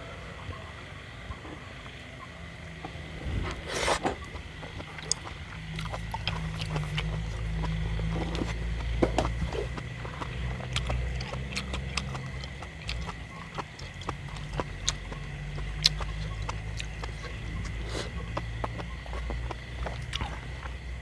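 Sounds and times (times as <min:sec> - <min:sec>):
low steady hum: 0:00.0 - 0:21.0
person chewing with lip smacks: 0:03.5 - 0:21.0.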